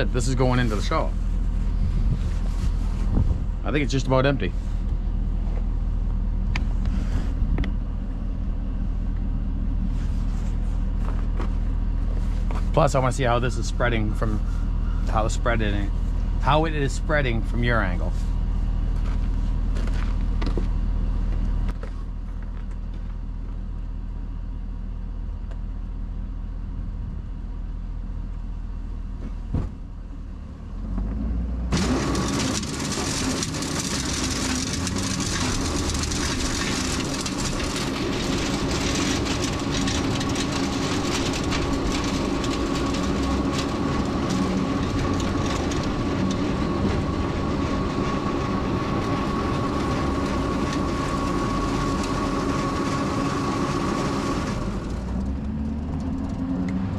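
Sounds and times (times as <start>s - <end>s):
sand spreader rattle and whine: 0.0s - 23.3s, 31.7s - 56.9s
truck engine rumbling: 0.0s - 56.9s.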